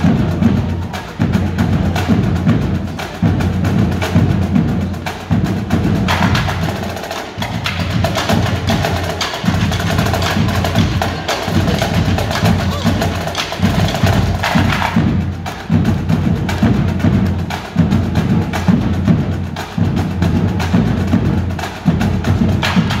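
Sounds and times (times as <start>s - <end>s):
drumline playing: 0.0s - 23.0s.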